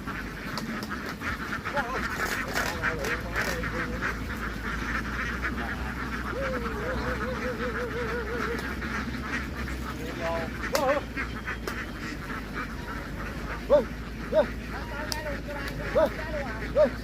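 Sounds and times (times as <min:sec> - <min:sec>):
ducks quacking: 0:00.0 - 0:17.0
low steady hum: 0:00.0 - 0:17.0.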